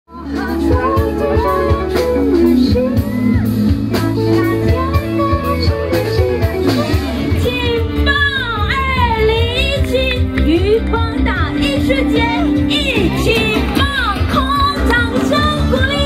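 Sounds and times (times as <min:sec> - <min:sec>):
backing track with bass and beat: 0:00.1 - 0:16.0
woman singing pop song: 0:00.1 - 0:16.0.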